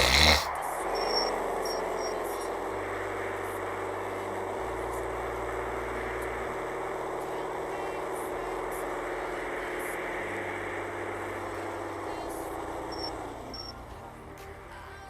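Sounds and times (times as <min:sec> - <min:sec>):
music with deep bass line: 0:00.7 - 0:15.0.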